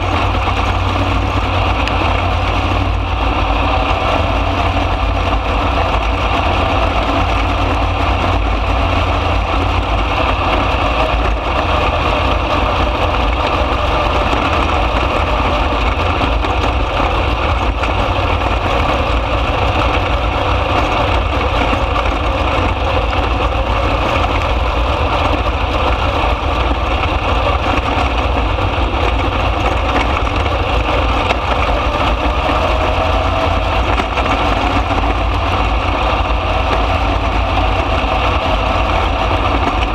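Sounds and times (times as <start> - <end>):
racing car engine drone: 0.0 - 39.9.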